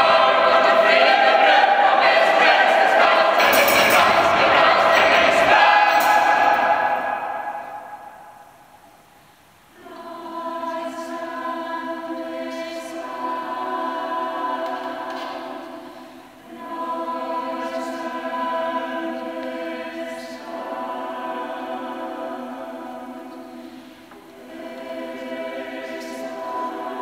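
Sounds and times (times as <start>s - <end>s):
mixed choir singing: 0.0s - 9.0s, 9.7s - 27.0s.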